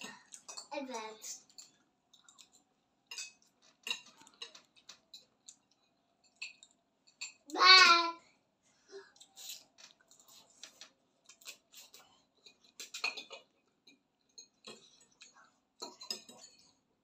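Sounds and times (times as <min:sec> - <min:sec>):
forks clinking on plates: 0:00.0 - 0:07.5, 0:09.2 - 0:16.8.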